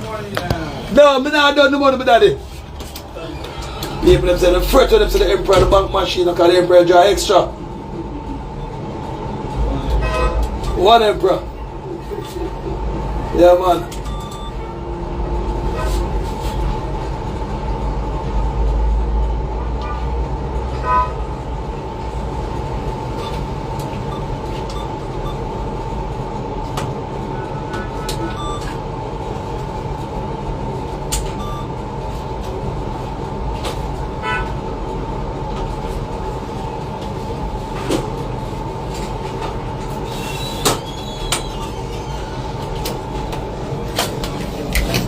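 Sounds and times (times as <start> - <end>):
constant high hum: 0.0 - 45.0.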